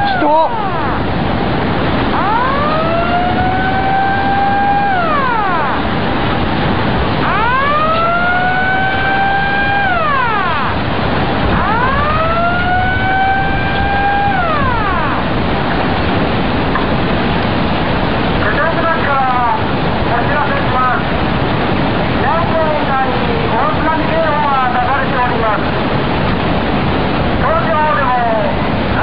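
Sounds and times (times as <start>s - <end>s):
loud rushing noise: 0.0s - 24.6s
warning siren wailing: 0.0s - 25.8s.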